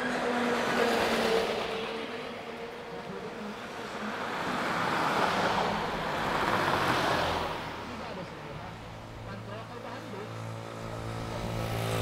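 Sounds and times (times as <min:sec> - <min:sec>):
road vehicles passing: 0:00.0 - 0:12.0.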